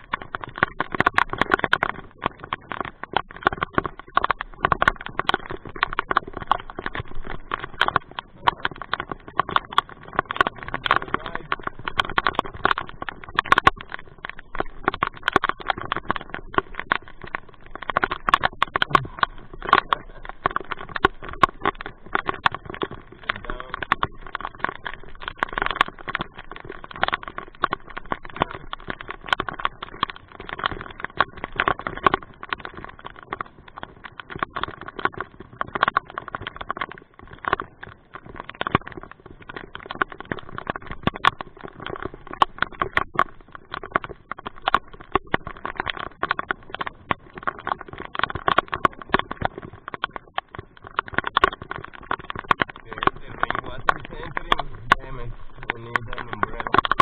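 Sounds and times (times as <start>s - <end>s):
rain hitting a hard surface: 0.0s - 57.0s.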